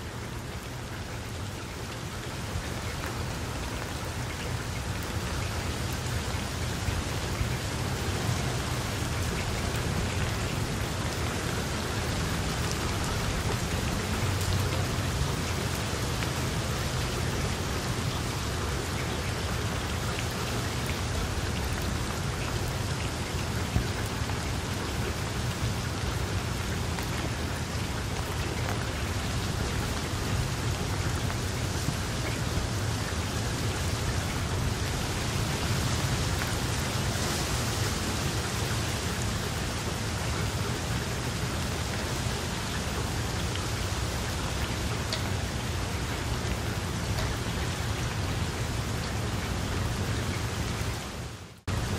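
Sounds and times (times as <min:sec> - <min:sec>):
rain falling on water: 0:00.0 - 0:51.9.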